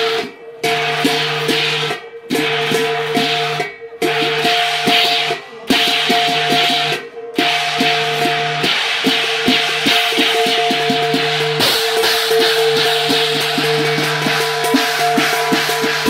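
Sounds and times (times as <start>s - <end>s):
cymbal wash: 0.0s - 16.0s
drum rhythm: 0.0s - 16.0s
ringing gong: 0.0s - 16.0s.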